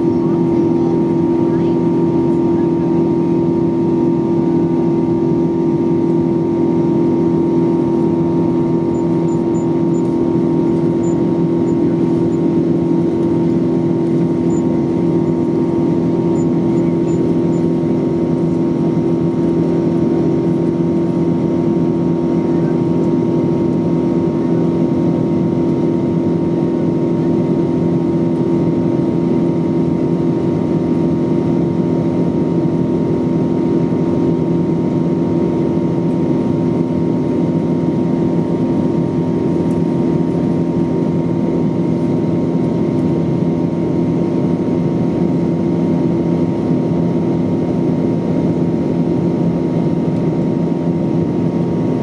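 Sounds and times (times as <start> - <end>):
jet engine cabin drone: 0.0 - 52.0.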